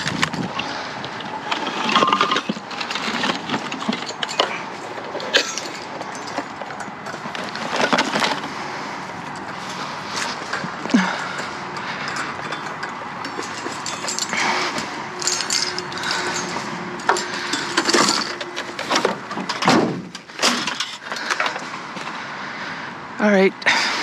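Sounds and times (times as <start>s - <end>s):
junk rummaged by hand: 0.0s - 22.2s.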